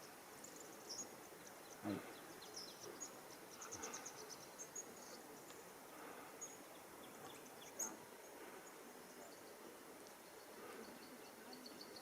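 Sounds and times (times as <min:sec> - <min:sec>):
low steady hiss: 0:00.0 - 0:12.0
wildlife chirping: 0:00.0 - 0:12.0.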